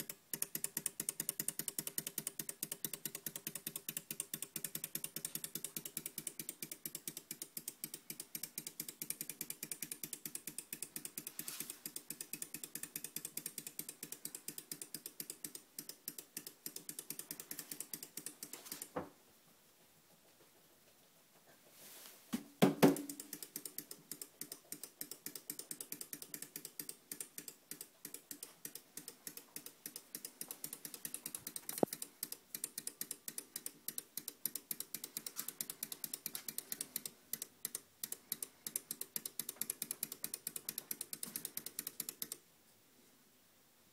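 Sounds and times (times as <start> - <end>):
clockwork motor clicking: 0.0 - 18.9, 23.0 - 42.4.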